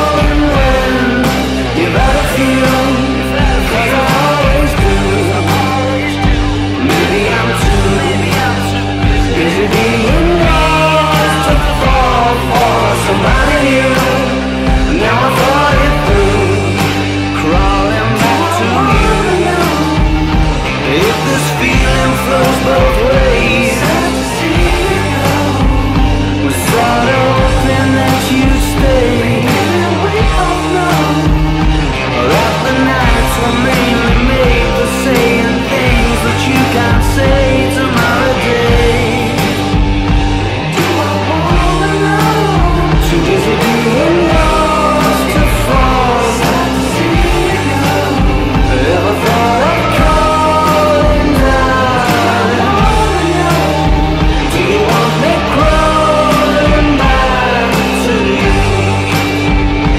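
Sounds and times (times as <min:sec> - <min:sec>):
bass and guitar line: 0:00.0 - 0:59.9
drums beating: 0:00.0 - 0:59.9
person singing: 0:00.0 - 0:59.9
rock song: 0:00.0 - 0:59.9
wordless sung vocals: 0:00.0 - 0:59.9.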